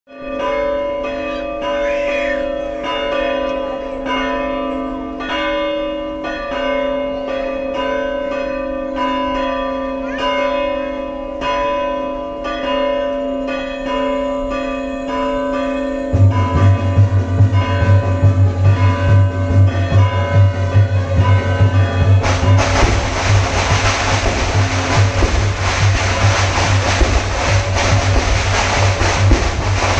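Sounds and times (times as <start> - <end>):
church bells ringing: 0.1 - 29.9.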